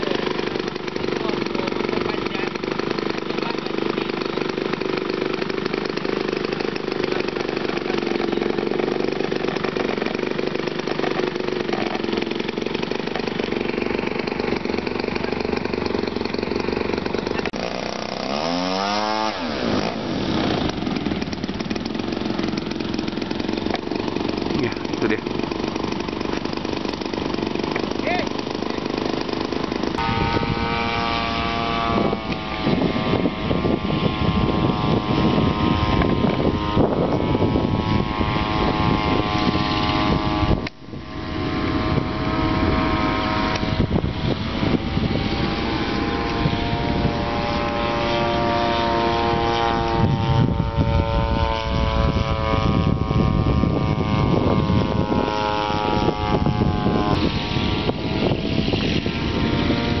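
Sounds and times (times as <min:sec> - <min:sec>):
model plane engine droning: 0:00.0 - 1:00.0.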